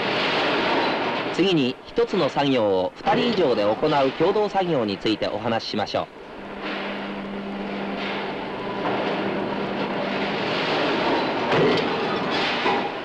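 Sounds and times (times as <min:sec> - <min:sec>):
machinery din: 0:00.0 - 0:13.0.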